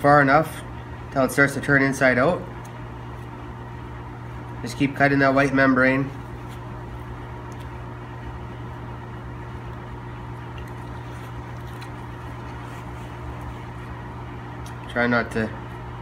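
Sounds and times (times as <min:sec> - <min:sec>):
appliance motor humming: 0:00.0 - 0:16.0.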